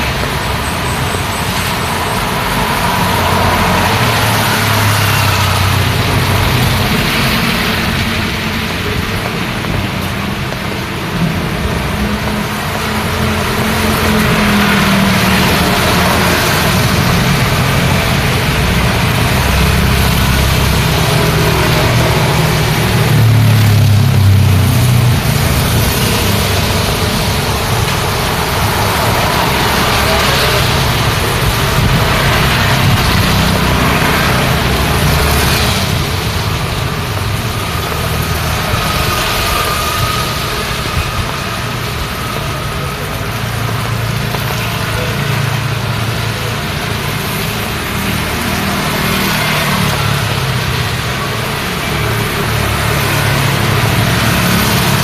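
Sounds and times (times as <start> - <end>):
car and motorbike engines passing: 0.0 - 55.0
rain and wet tyres hissing: 0.0 - 55.0.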